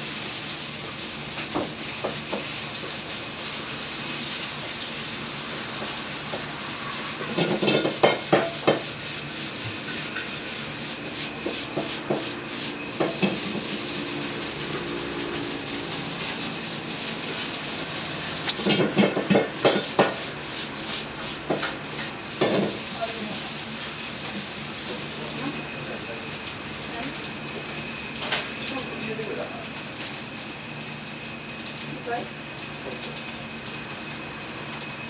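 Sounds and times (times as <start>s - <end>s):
rice sizzling in a wok: 0.0s - 35.0s.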